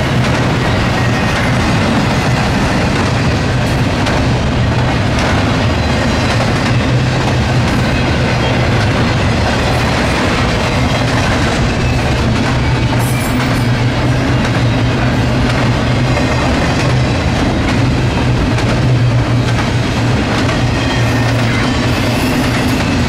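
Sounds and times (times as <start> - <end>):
train wheels running on rails: 0.0 - 23.0.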